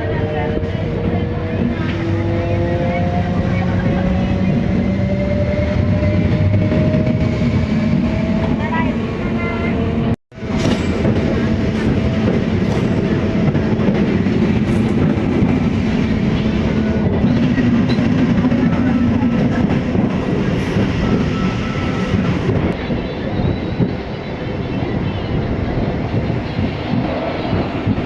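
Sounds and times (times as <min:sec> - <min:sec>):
train wheel and rail noise: 0:00.0 - 0:28.0.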